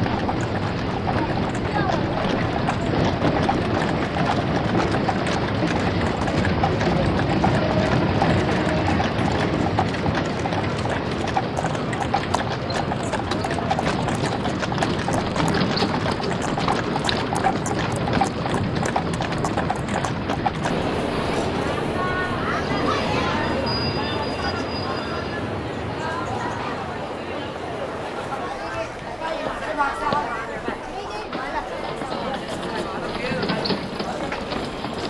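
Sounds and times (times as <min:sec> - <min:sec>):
horse hooves on pavement: 0:00.0 - 0:25.1, 0:28.2 - 0:35.0
street noise hubbub: 0:00.0 - 0:35.0.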